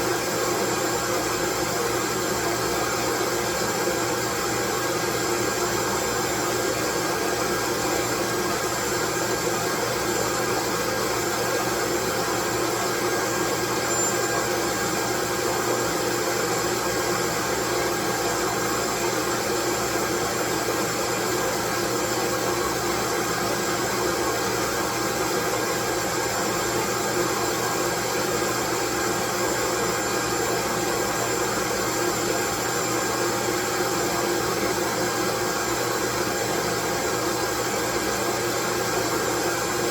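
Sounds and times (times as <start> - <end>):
loud white noise: 0.0 - 39.9.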